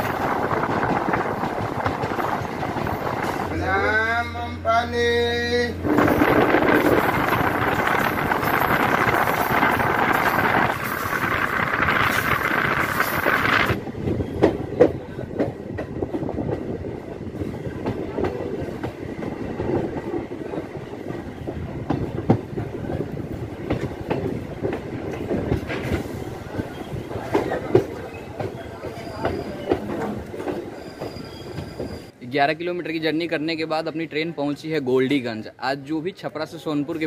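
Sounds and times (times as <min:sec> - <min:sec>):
train wheel and wind rush: 0:00.0 - 0:32.2.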